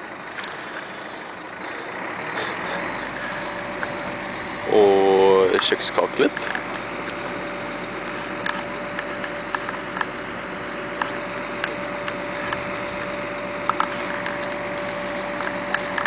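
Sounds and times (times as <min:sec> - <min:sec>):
constant whine: 0:00.0 - 0:16.0
crane engine hum: 0:00.0 - 0:16.0.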